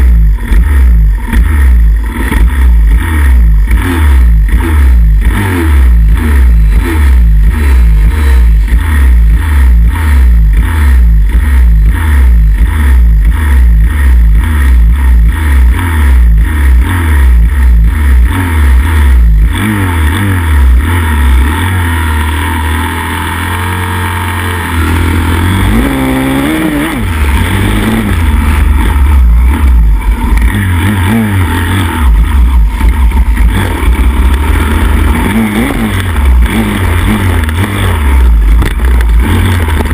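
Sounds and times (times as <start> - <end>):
other pit bikes running: 0.0 - 39.9
pit bike engine revving: 0.0 - 39.9.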